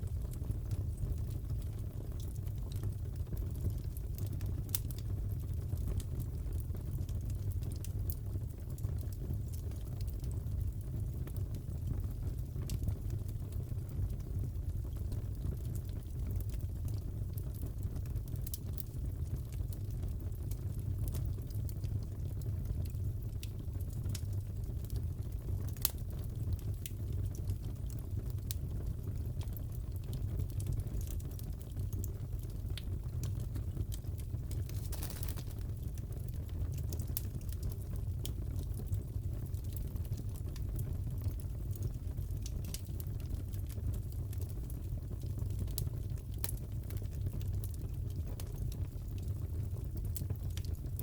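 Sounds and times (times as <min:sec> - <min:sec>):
fire rumbling: 0:00.0 - 0:51.0
fire pops and snaps: 0:02.2 - 0:06.3, 0:12.6 - 0:51.0.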